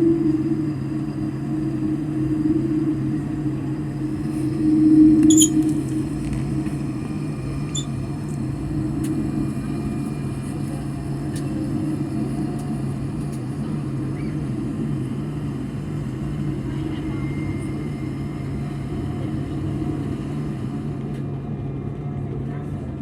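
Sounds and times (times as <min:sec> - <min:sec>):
airliner engines droning: 0:00.0 - 0:23.0.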